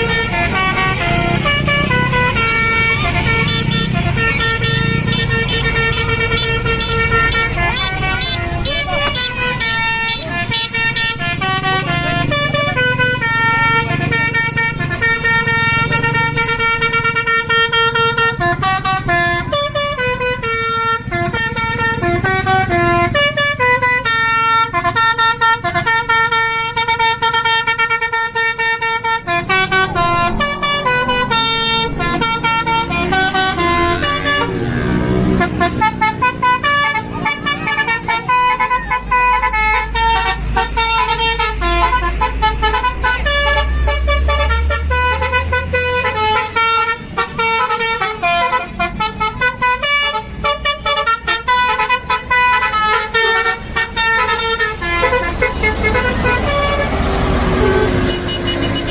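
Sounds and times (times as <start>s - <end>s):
bus horn playing melody: 0.0s - 58.9s.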